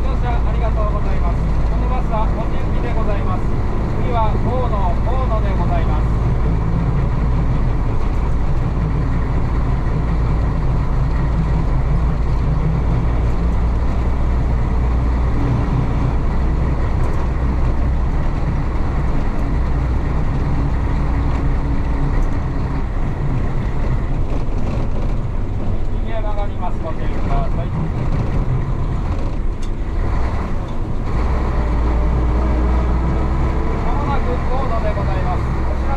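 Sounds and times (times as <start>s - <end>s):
diesel bus engine rumble: 0.0s - 35.9s.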